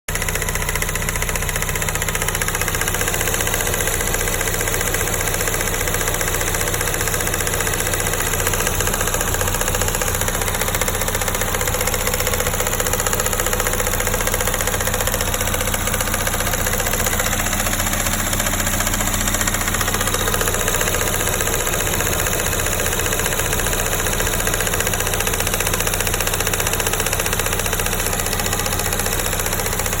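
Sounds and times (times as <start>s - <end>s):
car engine idling: 0.1s - 30.0s
engine ticking: 0.1s - 30.0s.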